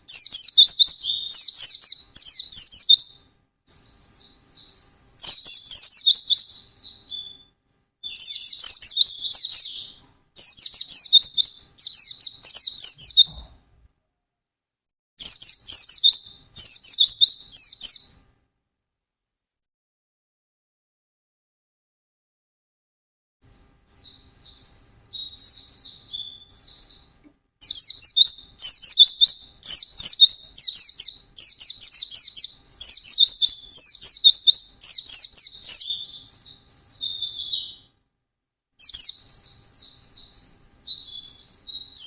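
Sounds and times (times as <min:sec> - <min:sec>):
bird twittering song: 0:00.0 - 0:13.6, 0:15.2 - 0:18.3, 0:23.4 - 0:37.9, 0:38.8 - 0:42.0.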